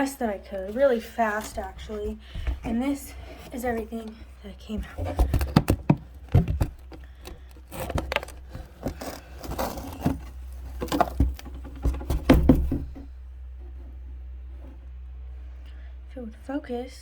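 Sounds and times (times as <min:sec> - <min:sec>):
handling knocks and rustles: 0:00.0 - 0:15.0
faint low hum: 0:00.0 - 0:17.0.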